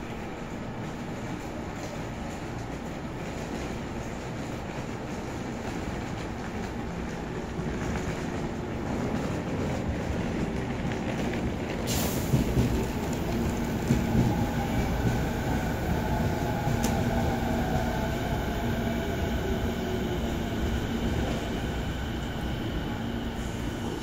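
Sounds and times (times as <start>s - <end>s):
train electrical hum and whine: 0.0s - 24.0s.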